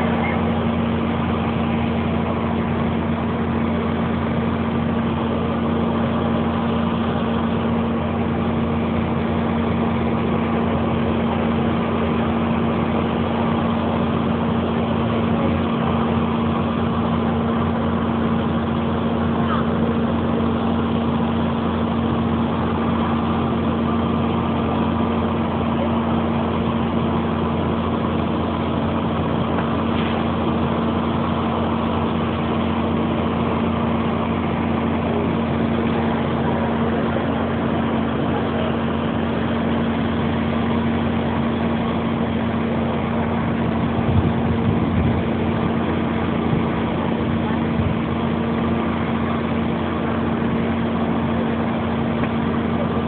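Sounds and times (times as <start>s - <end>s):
heavy engine droning: 0.0s - 53.0s.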